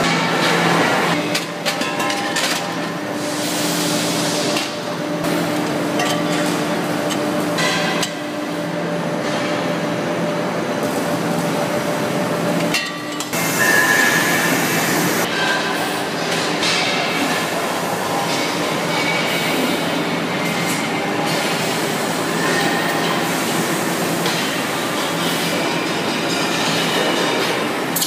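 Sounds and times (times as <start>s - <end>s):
factory machinery humming: 0.0s - 28.0s.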